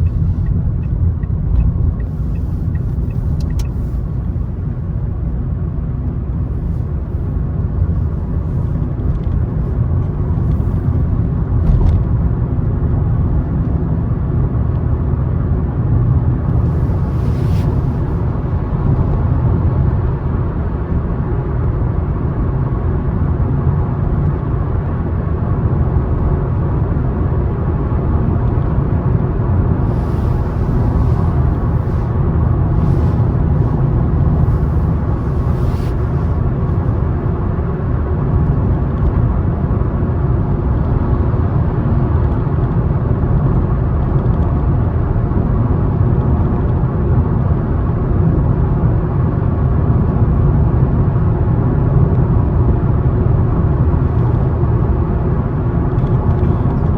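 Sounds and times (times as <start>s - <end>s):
car road noise: 0.0s - 56.9s.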